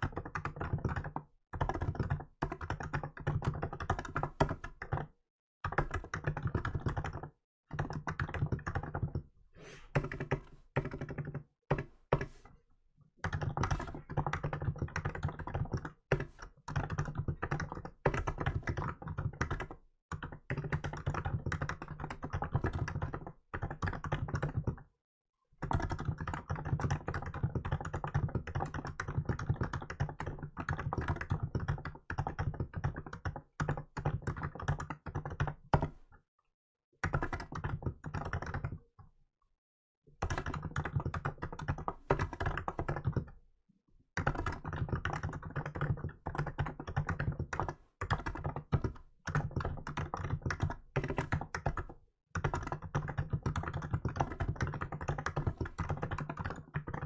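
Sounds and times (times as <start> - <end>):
typing on keyboard: 0.0 - 12.5, 13.2 - 24.9, 25.6 - 36.2, 37.0 - 39.0, 40.2 - 43.4, 44.2 - 57.0.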